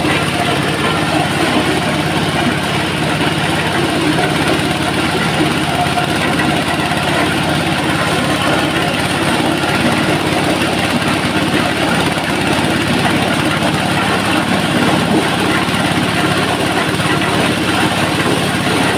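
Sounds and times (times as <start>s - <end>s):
corn sheller rushing noise: 0.0s - 18.9s
low engine drone: 0.0s - 18.9s.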